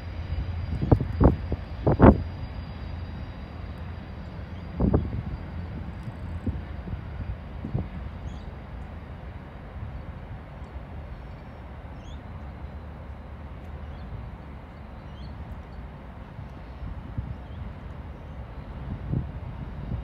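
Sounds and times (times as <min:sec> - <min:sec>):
distant freight train rumbling: 0:00.0 - 0:20.0.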